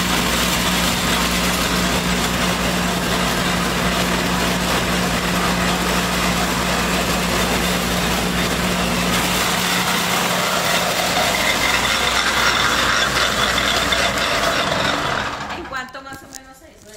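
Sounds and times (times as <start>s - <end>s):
pellet mill machine running: 0.0s - 15.9s.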